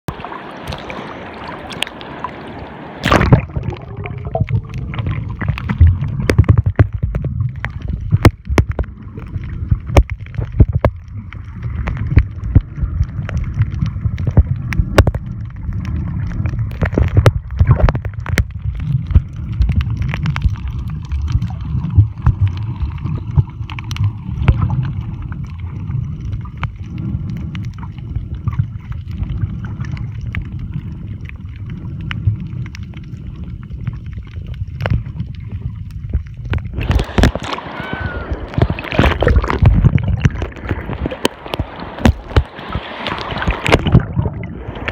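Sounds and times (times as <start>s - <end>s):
water sloshing at surface: 0.1s - 26.9s, 34.1s - 44.9s
muffled underwater churning rumble: 0.1s - 44.9s
underwater clicks and crackles: 0.1s - 44.9s.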